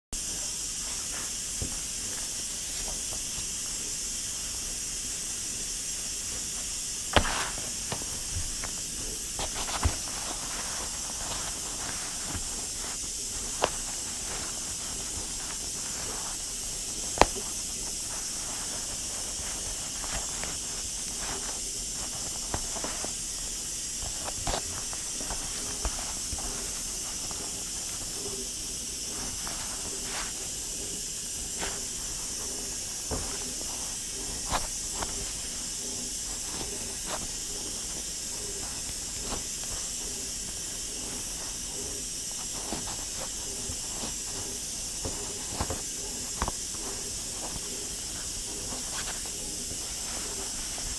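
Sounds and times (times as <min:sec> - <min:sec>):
pressure cooker hissing steam: 0:00.2 - 0:50.9.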